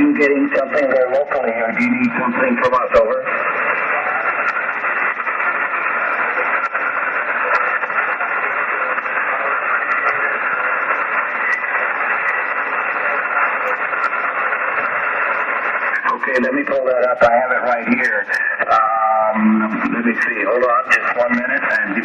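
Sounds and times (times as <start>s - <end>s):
faint static crackles: 0.0s - 22.0s
radio receiver hiss: 0.0s - 22.0s.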